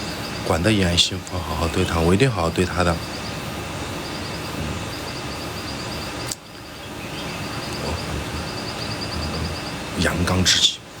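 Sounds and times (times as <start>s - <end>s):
insect chirping trills: 0.0s - 11.0s
outdoor background hiss: 0.0s - 11.0s.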